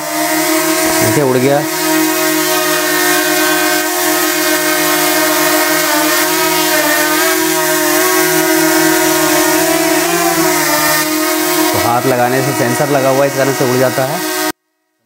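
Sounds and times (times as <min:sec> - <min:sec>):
drone buzzing whine: 0:00.0 - 0:15.0.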